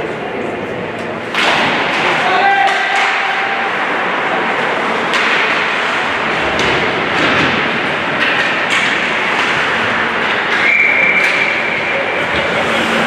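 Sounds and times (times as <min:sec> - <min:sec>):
spectators' noise: 0:00.0 - 0:13.0
hockey sticks and puck clacking: 0:01.0 - 0:13.0
skates scraping ice: 0:01.3 - 0:13.0.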